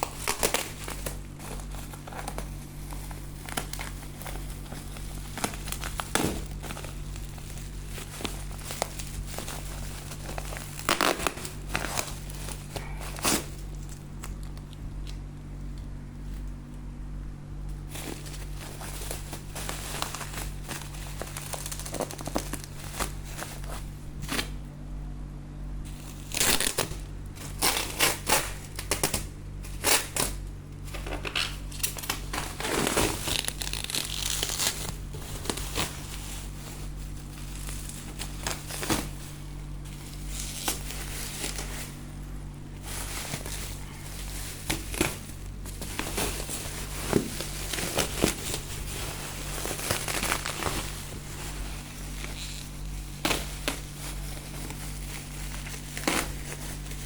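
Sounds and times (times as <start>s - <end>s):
packaging crinkling: 0.0s - 15.8s, 17.8s - 24.6s, 25.9s - 57.0s
steady low hum: 0.0s - 57.0s.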